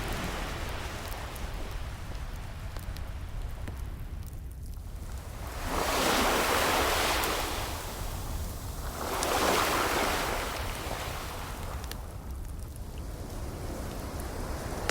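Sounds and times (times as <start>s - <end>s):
ocean waves washing in: 0.0s - 3.6s, 4.9s - 14.9s
fireplace crackles: 0.0s - 14.9s.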